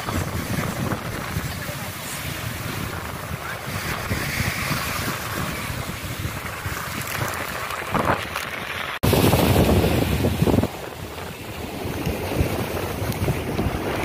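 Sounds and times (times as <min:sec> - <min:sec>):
surf on a beach: 0:00.0 - 0:14.0
wind buffeting microphone: 0:00.0 - 0:14.0.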